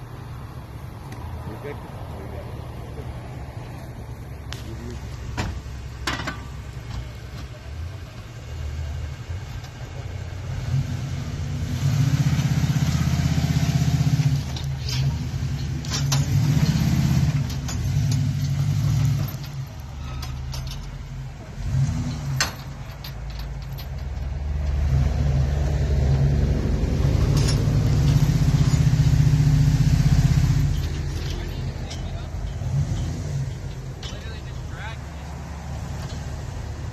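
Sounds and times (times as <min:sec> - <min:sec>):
truck engine revving: 0:02.9 - 0:36.9.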